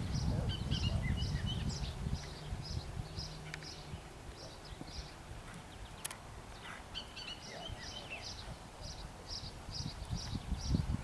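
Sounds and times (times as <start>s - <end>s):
bird twittering: 0.1s - 10.8s.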